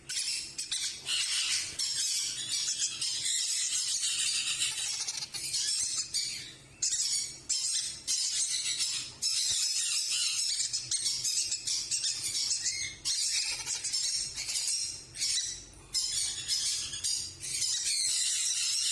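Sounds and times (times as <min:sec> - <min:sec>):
parakeets squawking: 0:00.0 - 0:18.9.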